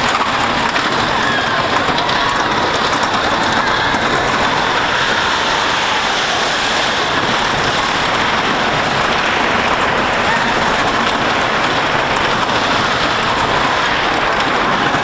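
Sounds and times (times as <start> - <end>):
roller coaster wheels clattering: 0.0 - 15.0
wind on microphone: 0.0 - 15.0.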